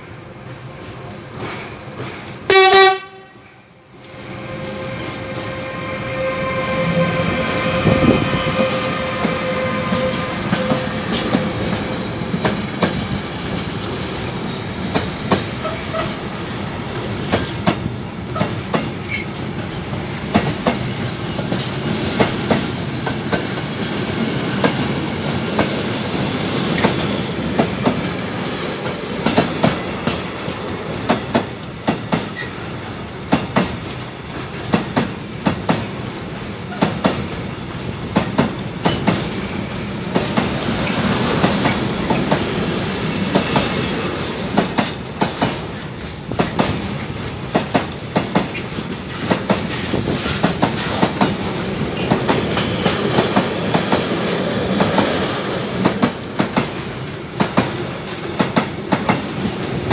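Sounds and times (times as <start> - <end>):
wheels clacking over rail joints: 8.3 - 59.9.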